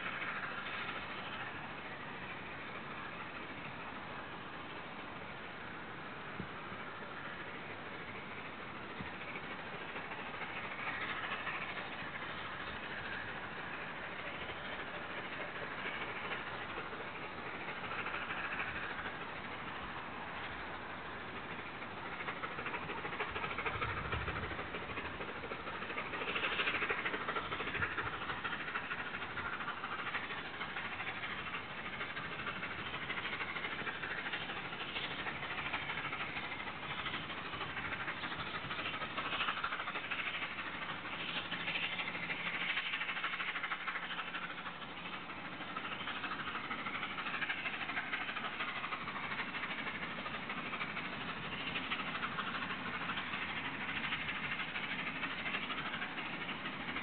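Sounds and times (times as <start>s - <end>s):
distant steam locomotive exhaust: 0.0s - 57.0s.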